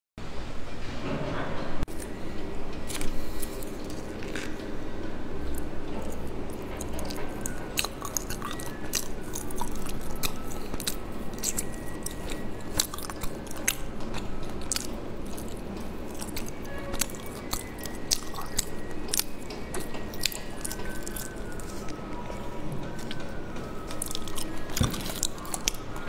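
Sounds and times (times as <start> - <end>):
person chewing soft cakes: 1.9 - 26.0.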